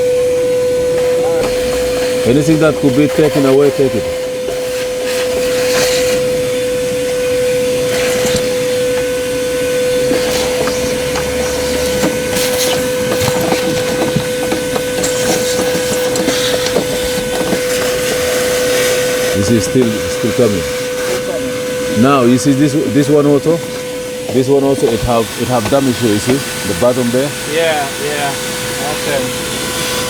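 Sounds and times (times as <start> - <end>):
wet-dry vacuum whining: 0.0 - 30.0.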